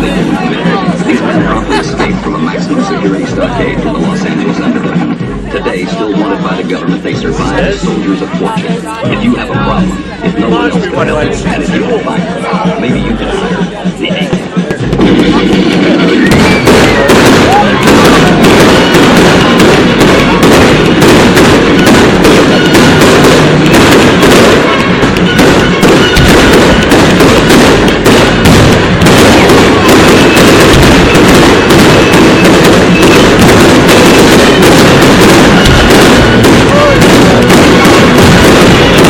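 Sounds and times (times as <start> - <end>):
fireworks crackling: 0.0 - 39.0.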